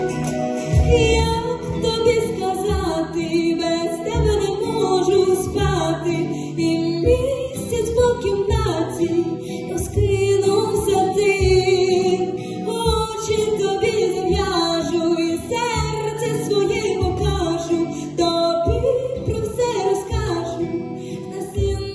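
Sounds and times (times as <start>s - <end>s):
instrumental backing with bass: 0.0s - 18.0s
woman singing: 0.0s - 21.9s.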